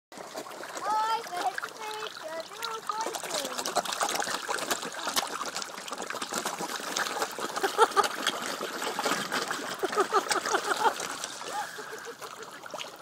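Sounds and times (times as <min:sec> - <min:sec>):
fish gulping and slurping at surface: 0:00.1 - 0:13.0.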